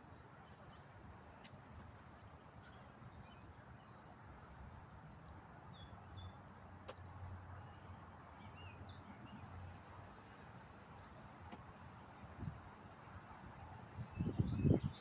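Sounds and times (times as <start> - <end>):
faint low wind rumble: 0.0 - 15.0.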